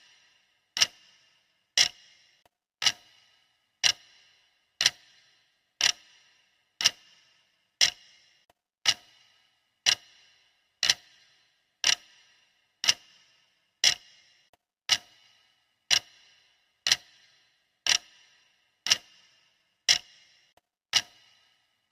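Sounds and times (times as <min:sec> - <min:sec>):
clock ticking: 0:00.0 - 0:21.9.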